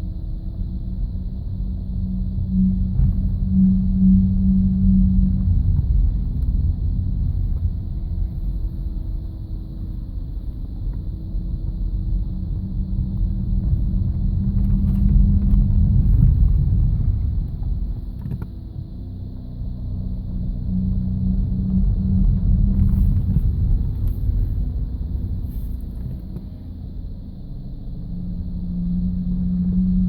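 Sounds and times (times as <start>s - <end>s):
low groaning growling car noise: 0.0s - 30.0s.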